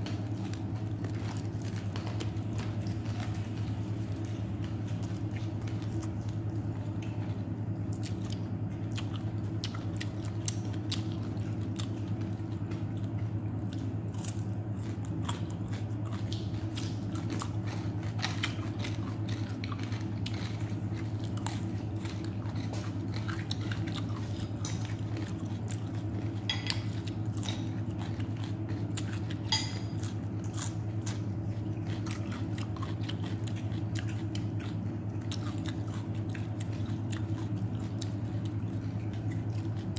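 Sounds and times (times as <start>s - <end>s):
person chewing crunchy food: 0.0s - 39.9s
steady low hum: 0.0s - 39.9s.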